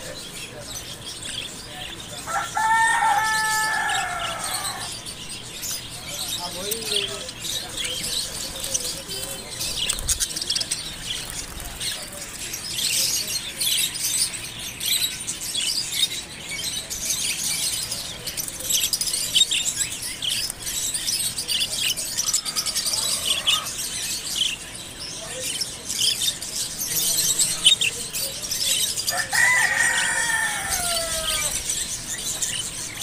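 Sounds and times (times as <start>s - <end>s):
budgerigars chirping: 0.0s - 33.0s.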